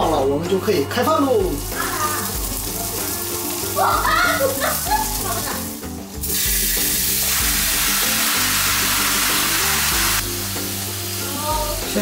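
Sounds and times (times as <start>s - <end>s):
background music: 0.0s - 12.0s
meat sizzling in a pot: 1.3s - 12.0s.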